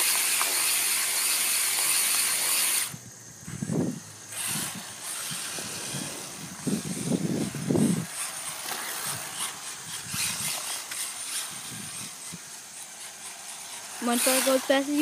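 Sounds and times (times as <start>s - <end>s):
rc car motor whining: 0.0s - 15.0s
tyre noise: 0.0s - 15.0s.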